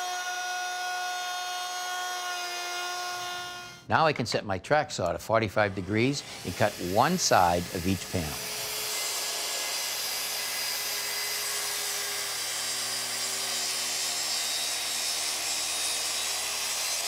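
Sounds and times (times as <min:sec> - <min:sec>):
circular saw cutting wood: 0:00.0 - 0:03.9, 0:05.0 - 0:17.0.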